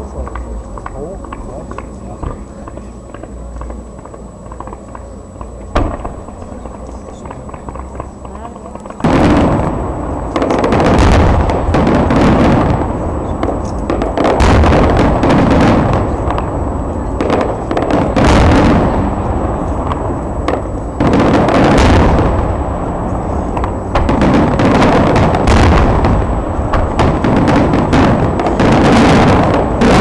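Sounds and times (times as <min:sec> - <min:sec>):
fireworks crackling: 0:00.0 - 0:30.0
fireworks shells bursting: 0:00.1 - 0:30.0.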